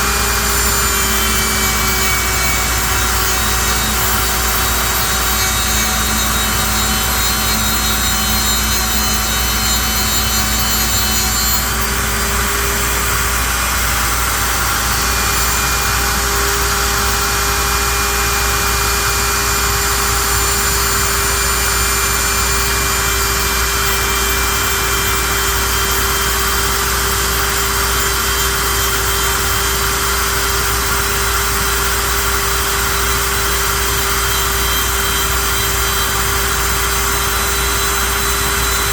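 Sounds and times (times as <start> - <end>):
lathe tool cutting wood: 0.0 - 38.9
machine motors whining: 0.0 - 38.9.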